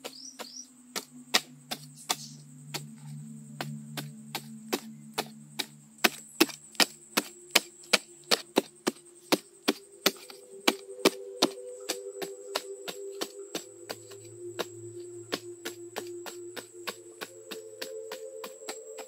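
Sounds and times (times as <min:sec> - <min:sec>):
wooden stick striking hard soil: 0:00.0 - 0:19.0.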